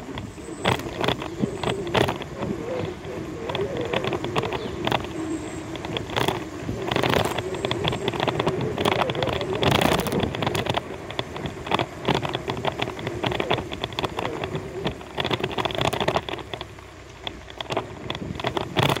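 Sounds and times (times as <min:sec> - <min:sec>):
bike rattling over bumps: 0:00.0 - 0:19.0
tyre and wind noise: 0:00.0 - 0:19.0.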